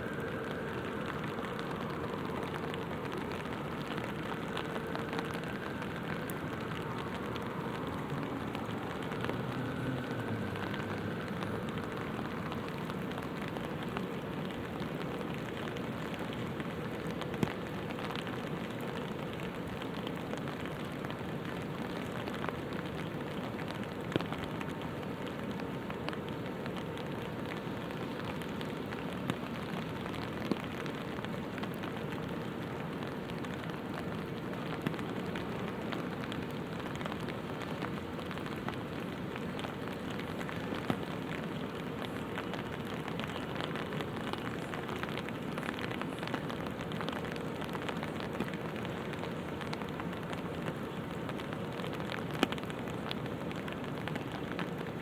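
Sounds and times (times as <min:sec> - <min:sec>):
rain pattering on umbrella: 0:00.0 - 0:55.0.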